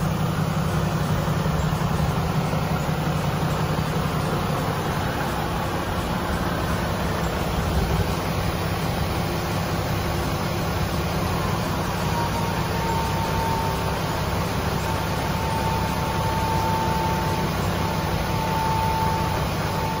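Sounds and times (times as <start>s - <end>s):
diesel truck engine running: 0.0s - 20.0s
thin high whine: 0.0s - 20.0s.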